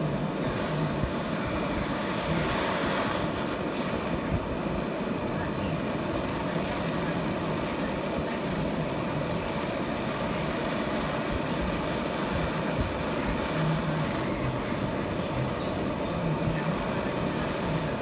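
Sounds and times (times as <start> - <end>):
brazing torch flame roaring: 0.0 - 18.0.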